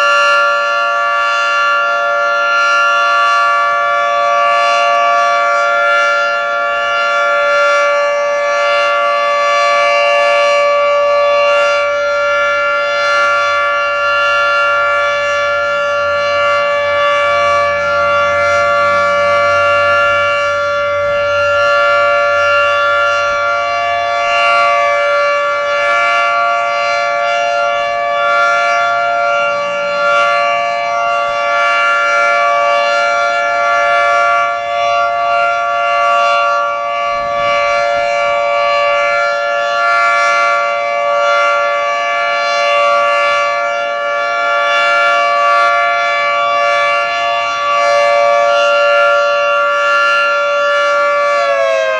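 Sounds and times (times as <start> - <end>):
rotating warning siren: 0.0 - 51.9.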